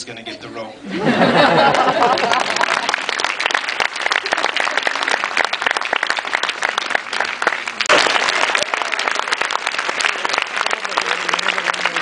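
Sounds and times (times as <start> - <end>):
audience applauding: 1.3 - 12.0.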